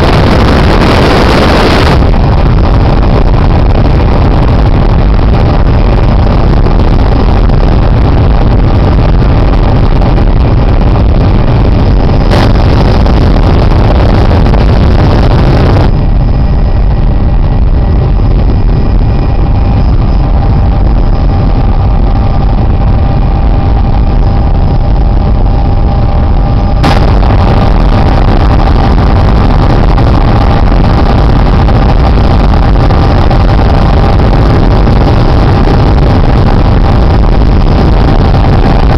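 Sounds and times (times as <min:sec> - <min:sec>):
helicopter engine and rotor drone: 0:00.0 - 0:38.9
thin whine: 0:00.0 - 0:38.9.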